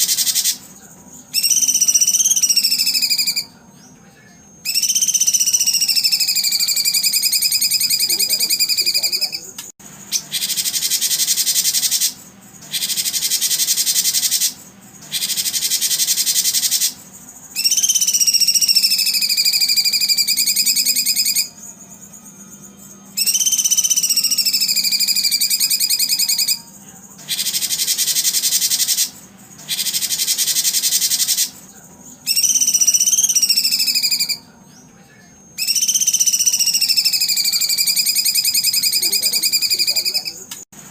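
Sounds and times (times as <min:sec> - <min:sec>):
bird whistled calls: 0:00.0 - 0:00.7, 0:01.3 - 0:03.5, 0:04.6 - 0:09.5, 0:10.1 - 0:17.0, 0:17.6 - 0:21.6, 0:23.1 - 0:31.6, 0:32.2 - 0:34.5, 0:35.6 - 0:40.4
fast buzzing bird trill: 0:00.0 - 0:03.6, 0:04.6 - 0:34.5, 0:35.4 - 0:40.7.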